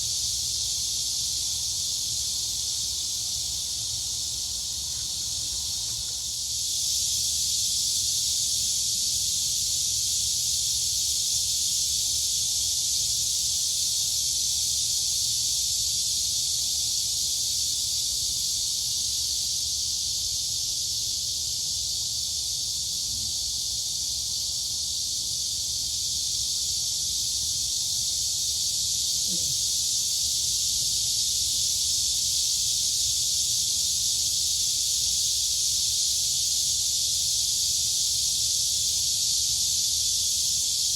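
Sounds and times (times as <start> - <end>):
crickets and cicadas chorus: 0.0 - 40.9.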